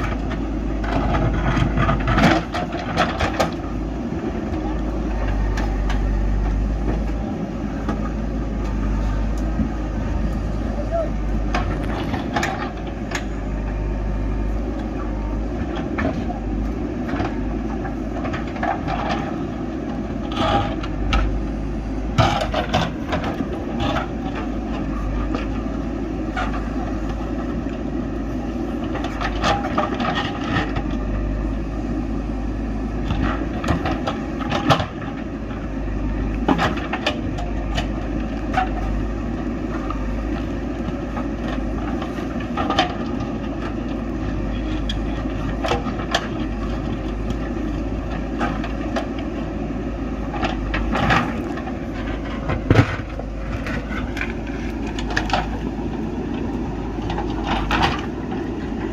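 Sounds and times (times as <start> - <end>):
diesel engine running under load: 0.0 - 58.9.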